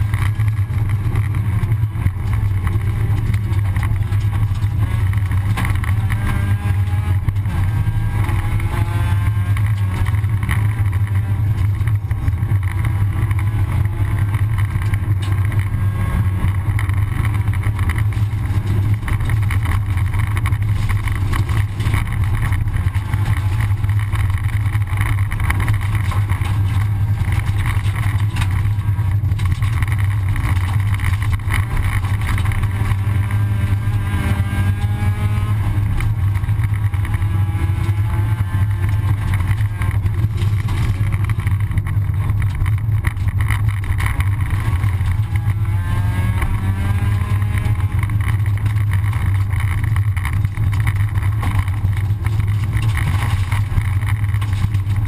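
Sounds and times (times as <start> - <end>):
rally car engine accelerating: 0.0 - 55.0
road noise inside car: 0.0 - 55.0.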